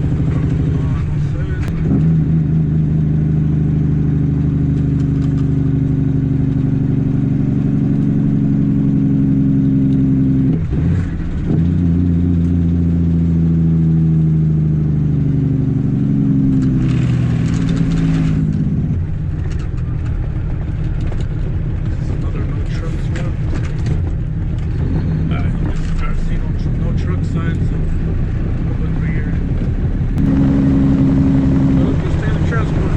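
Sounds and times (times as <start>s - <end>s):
diesel truck engine running: 0.0s - 32.9s.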